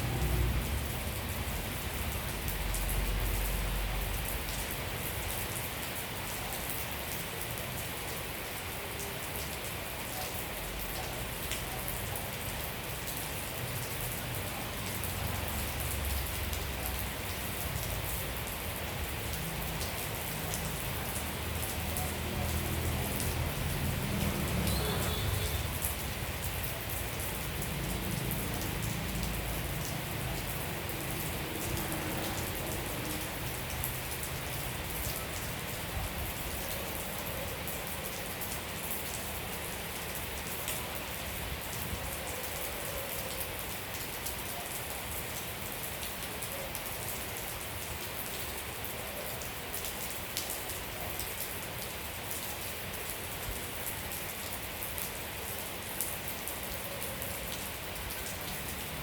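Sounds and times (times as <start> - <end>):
raindrops tapping close by: 0.0 - 42.3, 43.3 - 59.0
steady rainfall hiss: 0.0 - 59.0.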